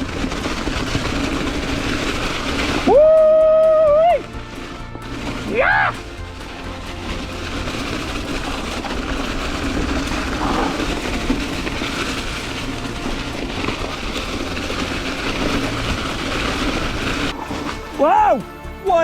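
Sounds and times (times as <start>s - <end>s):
mountain bike rumbling and rattling: 0.0s - 19.0s.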